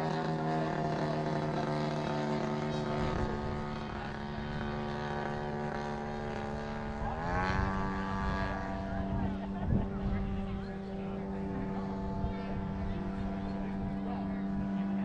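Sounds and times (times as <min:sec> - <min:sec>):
model airplane engine and propeller: 0:00.0 - 0:15.0.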